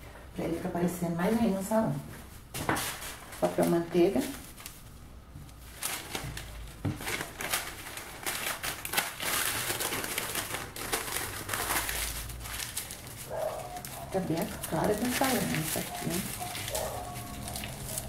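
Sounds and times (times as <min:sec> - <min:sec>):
parchment paper crinkling: 0:02.4 - 0:18.0.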